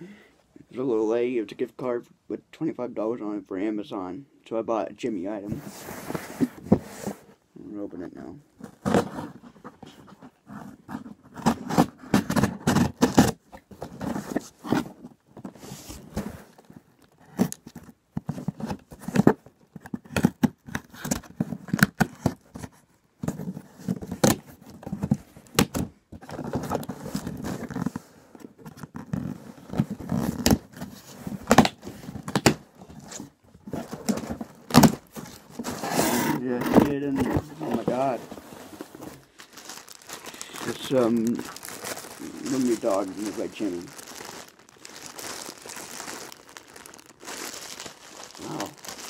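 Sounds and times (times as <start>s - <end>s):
cardboard scraping and crackling: 8.6s - 49.0s.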